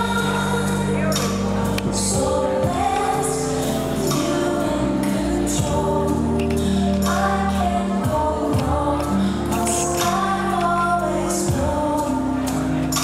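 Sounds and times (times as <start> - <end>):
gospel song singing over loudspeakers: 0.0 - 13.0.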